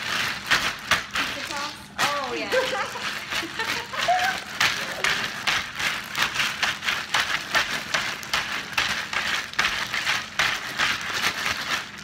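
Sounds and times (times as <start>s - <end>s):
ice rattling in shaken plastic bag: 0.0s - 12.0s.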